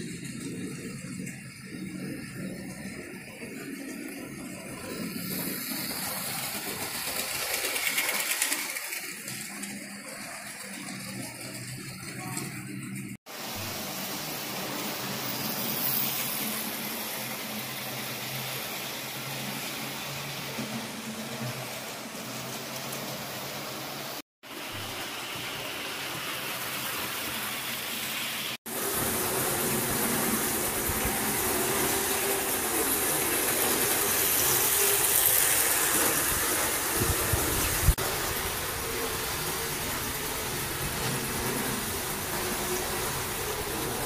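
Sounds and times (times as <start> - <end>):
model trains running on track: 0.0 - 44.0.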